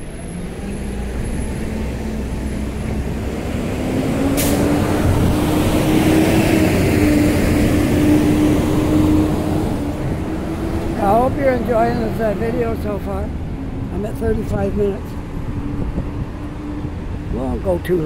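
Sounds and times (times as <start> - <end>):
traffic passing close by: 0.0 - 18.0.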